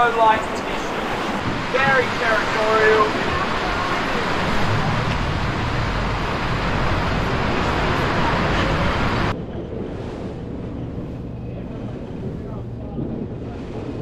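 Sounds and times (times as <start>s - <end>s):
boat engine hum: 0.0s - 14.0s
water rushing past boat: 0.0s - 14.0s
wind buffeting microphone: 0.0s - 14.0s.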